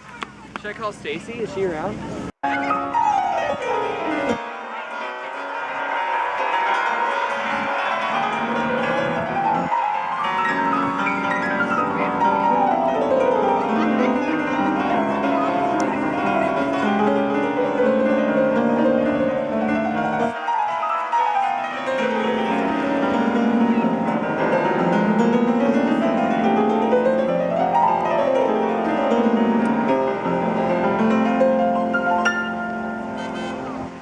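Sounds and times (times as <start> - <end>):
grand piano playing fast runs: 2.4 - 34.0.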